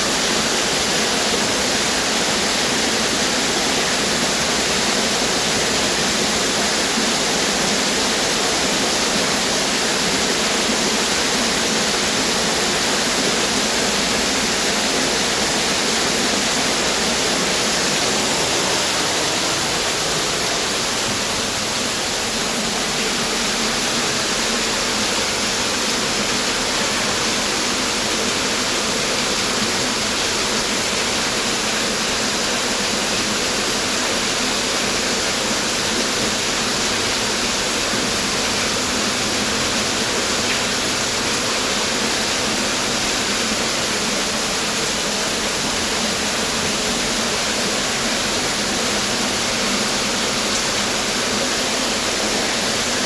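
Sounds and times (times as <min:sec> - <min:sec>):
waterfall crashing: 0:00.0 - 0:53.0.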